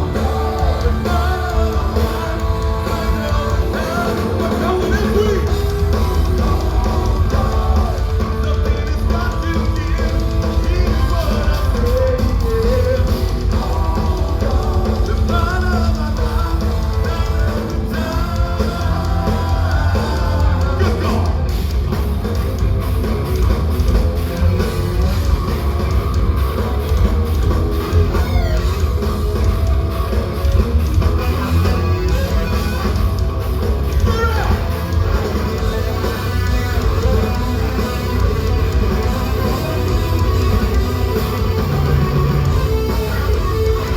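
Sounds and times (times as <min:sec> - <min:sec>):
metal band playing live: 0:00.0 - 0:43.9.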